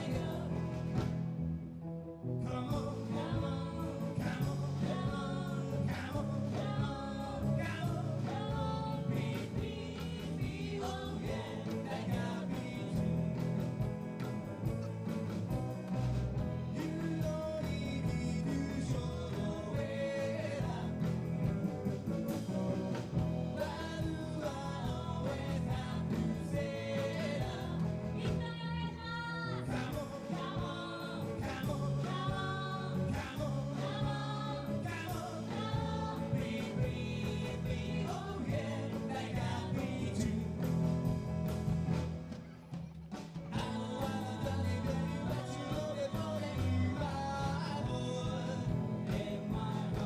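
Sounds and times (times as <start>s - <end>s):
lead singer singing: 0.0s - 1.2s, 2.4s - 13.8s, 16.4s - 21.7s, 22.3s - 41.6s, 43.4s - 50.0s
live band playing: 0.0s - 50.0s.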